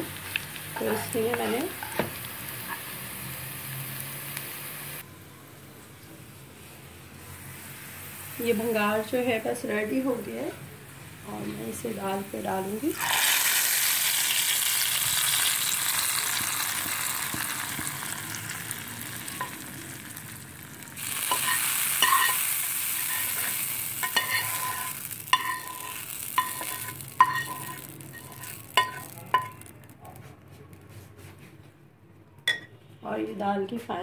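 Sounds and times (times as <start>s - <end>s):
hot oil sizzling: 0.0s - 5.0s, 5.8s - 30.2s.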